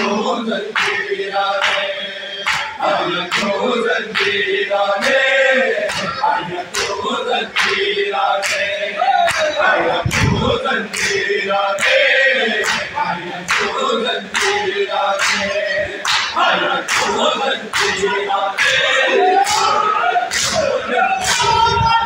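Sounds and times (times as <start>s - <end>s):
men chanting in chorus: 0.0s - 22.0s.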